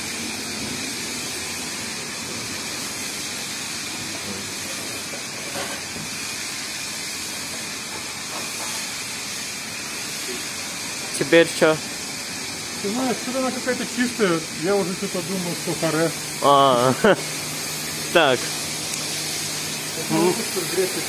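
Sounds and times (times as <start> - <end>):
pressure washer spray hiss: 0.0 - 21.0.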